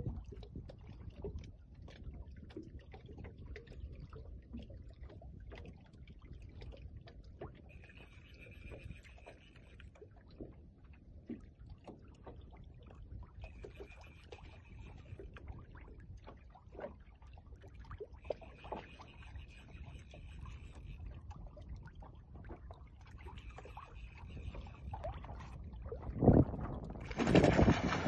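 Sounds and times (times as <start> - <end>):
water slapping against hull: 0.0 - 28.0.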